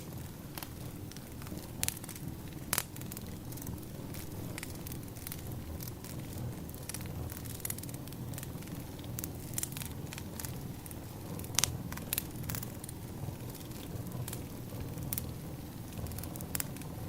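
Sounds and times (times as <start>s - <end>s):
low rumble of burning logs: 0.0s - 17.0s
wood fire pops and snaps: 0.0s - 17.0s.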